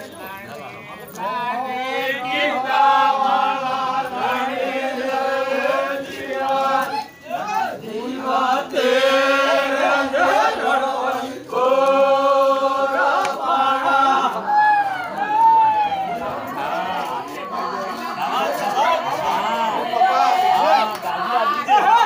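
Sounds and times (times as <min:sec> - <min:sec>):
group singing folk song: 0:00.0 - 0:22.0.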